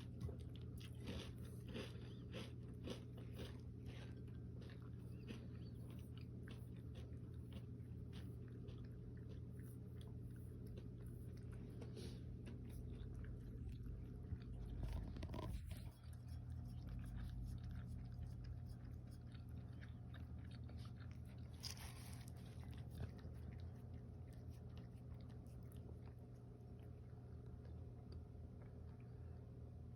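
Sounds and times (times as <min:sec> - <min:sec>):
crunchy chewing of food: 0:00.0 - 0:29.9
steady low hum: 0:00.0 - 0:29.9.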